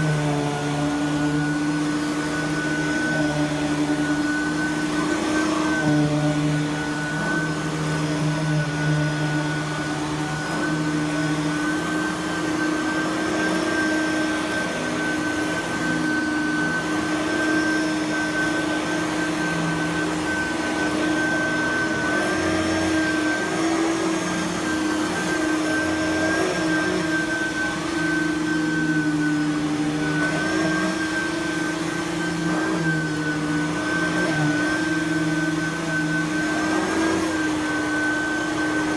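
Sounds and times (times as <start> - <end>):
upright vacuum running over carpet: 0.0 - 38.9.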